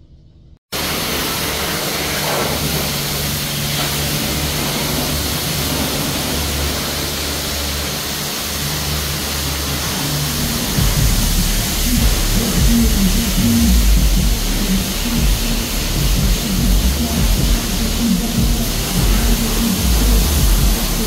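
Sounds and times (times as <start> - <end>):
low machine hum: 0.0 - 21.0
pressure washer spray hiss: 0.7 - 21.0.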